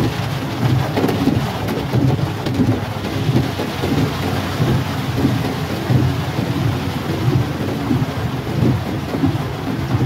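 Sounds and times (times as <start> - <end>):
heavy rain on a car roof: 0.0 - 10.0
windscreen wipers sweeping: 0.0 - 10.0.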